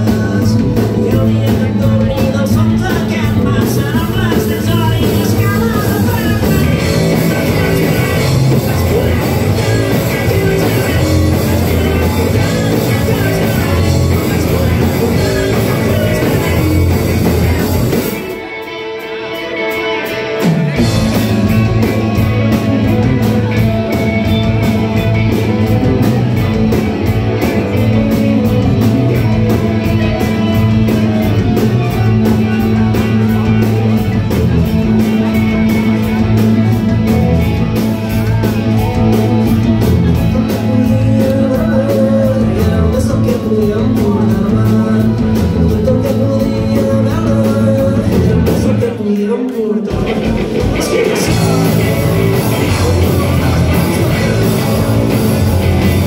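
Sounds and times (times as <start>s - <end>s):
live rock band playing: 0.0s - 56.0s
person singing: 0.0s - 56.0s.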